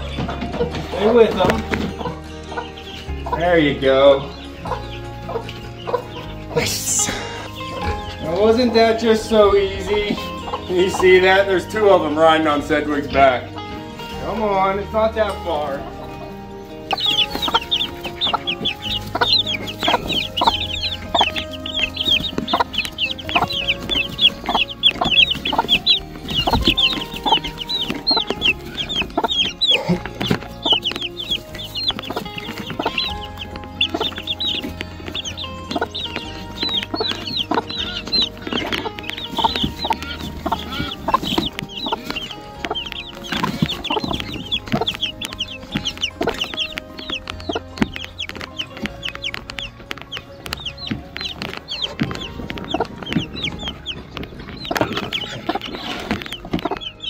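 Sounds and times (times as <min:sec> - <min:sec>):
background music: 0:00.0 - 0:57.0
chicks peeping: 0:00.0 - 0:57.0
hen clucking: 0:00.0 - 0:57.0.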